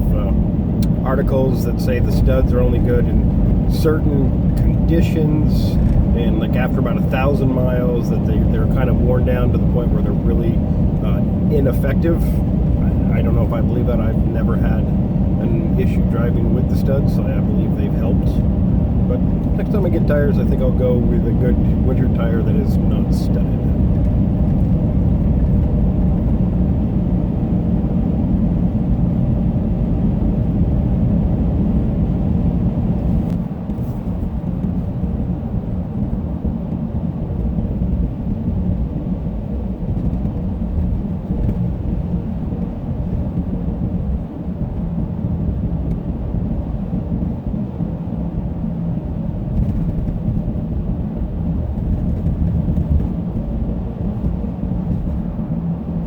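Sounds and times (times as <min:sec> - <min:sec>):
car engine: 0:00.0 - 0:56.0
tire road noise rumble: 0:00.0 - 0:56.0.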